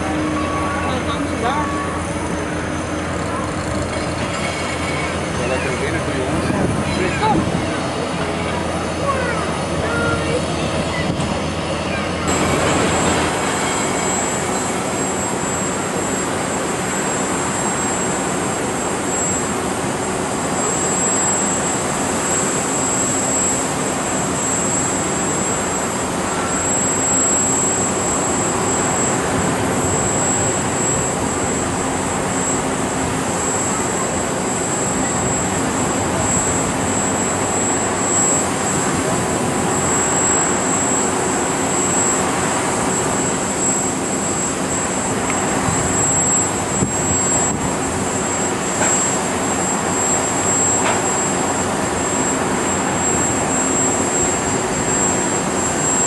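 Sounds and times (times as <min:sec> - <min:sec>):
jet engines rushing: 0:00.0 - 0:56.0.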